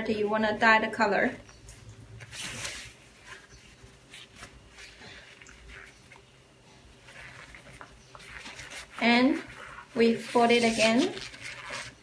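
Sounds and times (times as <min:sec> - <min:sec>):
gloves rubbing wet fabric: 0:02.2 - 0:12.0.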